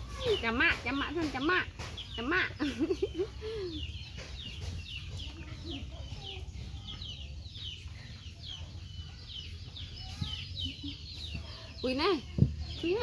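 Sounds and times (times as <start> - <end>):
chickens clucking: 0.0 - 13.0
chicks peeping: 0.0 - 13.0.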